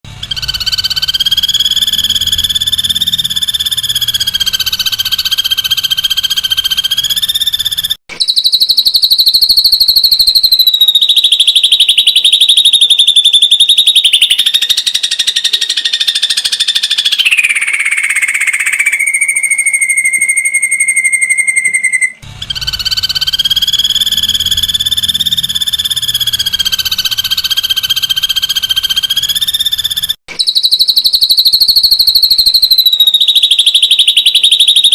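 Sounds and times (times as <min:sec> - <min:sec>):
bird fast-pulsed trill: 0:00.1 - 0:34.9.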